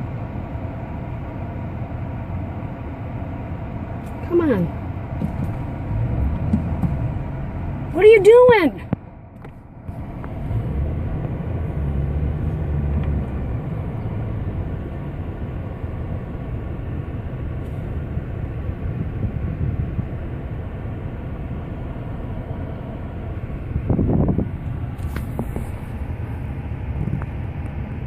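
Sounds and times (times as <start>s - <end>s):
vehicle engine rumble: 0.0s - 28.0s.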